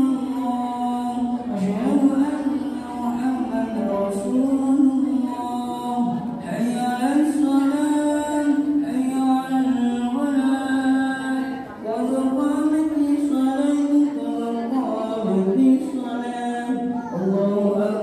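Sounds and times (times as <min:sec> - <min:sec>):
person singing slow long lines: 0:00.0 - 0:18.0.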